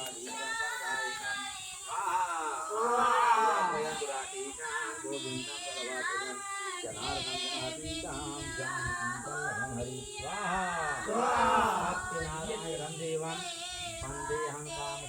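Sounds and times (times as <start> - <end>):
voices singing a devotional chant: 0.0 - 15.0.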